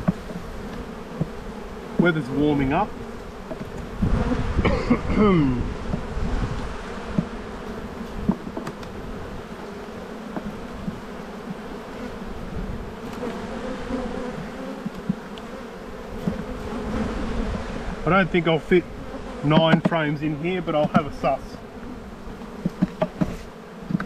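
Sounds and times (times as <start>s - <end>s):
bees buzzing: 0.0s - 24.0s
bees flying past: 0.0s - 24.0s.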